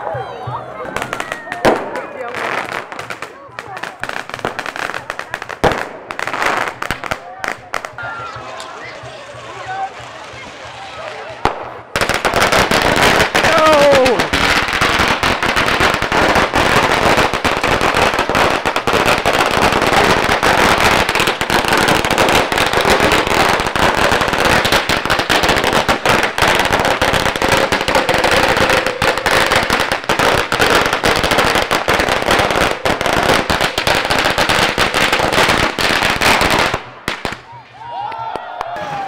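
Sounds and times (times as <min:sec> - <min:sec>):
firecrackers crackling: 0:00.0 - 0:39.0.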